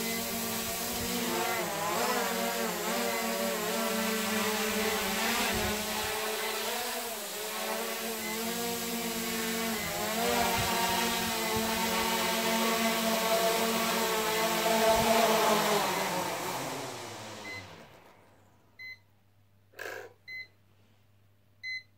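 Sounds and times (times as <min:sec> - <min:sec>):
drone propellers buzzing: 0:00.0 - 0:18.1.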